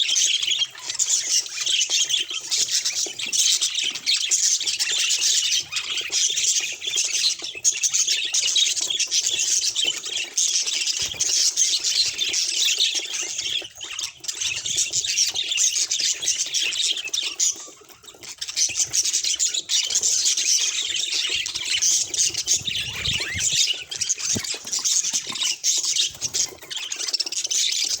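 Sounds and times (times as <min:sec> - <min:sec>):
budgerigars chattering: 0:00.0 - 0:28.0.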